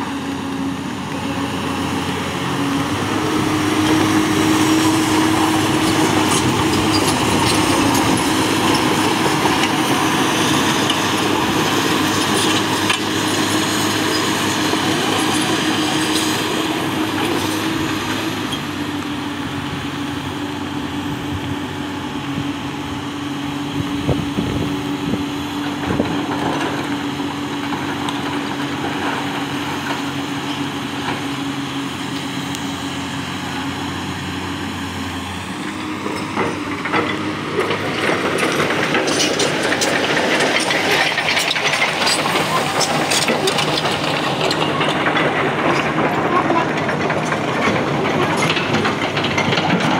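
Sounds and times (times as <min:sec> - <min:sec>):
excavator diesel engine whining: 0:00.0 - 0:49.9.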